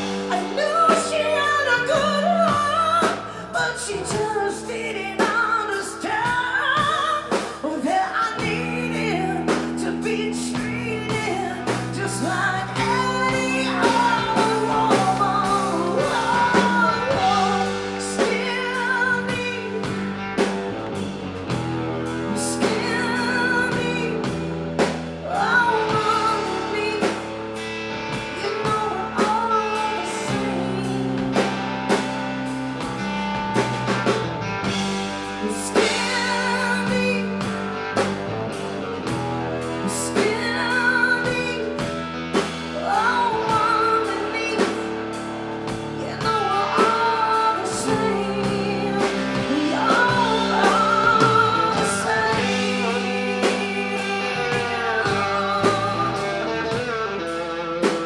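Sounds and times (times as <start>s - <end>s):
woman singing with vibrato: 0.0s - 20.4s, 22.0s - 31.8s, 34.7s - 38.0s, 39.5s - 57.3s
blues band playing: 0.0s - 58.0s.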